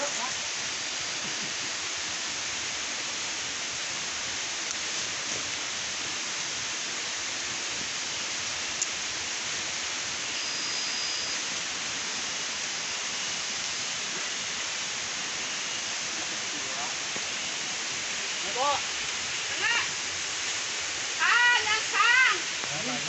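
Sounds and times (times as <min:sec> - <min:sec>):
forest ambience hiss: 0:00.0 - 0:23.0.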